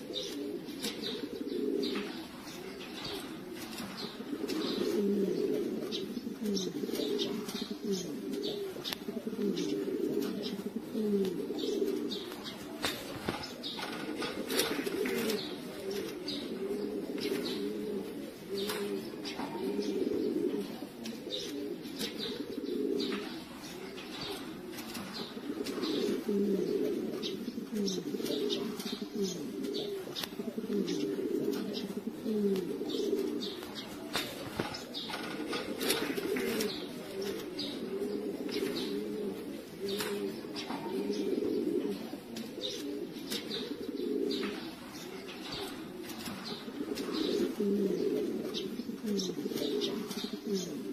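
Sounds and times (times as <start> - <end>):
pigeons cooing: 0.0 - 50.9.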